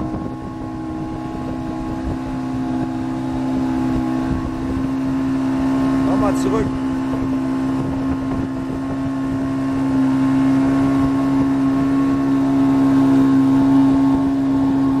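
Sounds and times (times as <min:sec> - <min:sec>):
motorboat engine humming: 0:00.0 - 0:15.0
rushing water and wind: 0:00.0 - 0:15.0.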